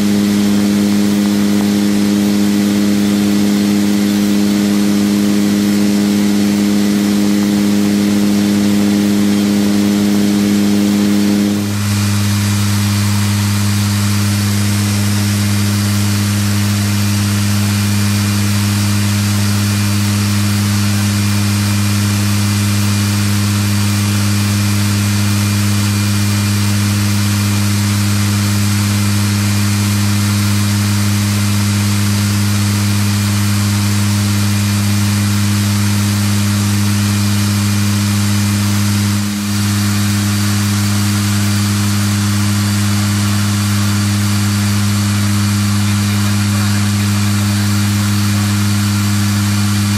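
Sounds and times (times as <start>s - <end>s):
turboprop aircraft cabin drone: 0.0s - 49.9s.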